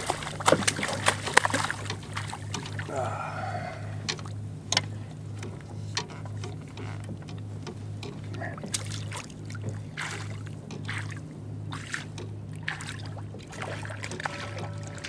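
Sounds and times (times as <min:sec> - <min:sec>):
steady low hum: 0:00.0 - 0:15.0
water splashing beside kayak: 0:00.0 - 0:15.0.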